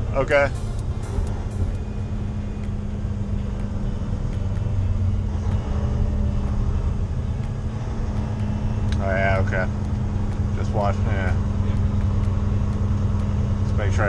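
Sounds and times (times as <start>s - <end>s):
truck diesel drone from inside cab: 0.0s - 14.0s.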